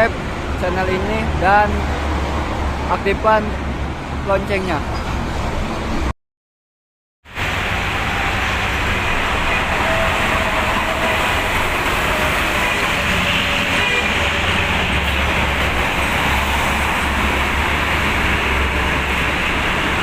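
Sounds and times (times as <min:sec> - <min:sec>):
highway traffic: 0:00.0 - 0:06.2, 0:07.2 - 0:20.0.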